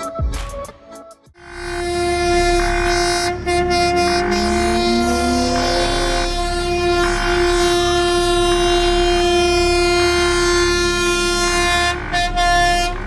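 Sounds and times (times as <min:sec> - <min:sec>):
diesel engine running: 0:01.4 - 0:13.0
locomotive horn blast: 0:01.4 - 0:13.0.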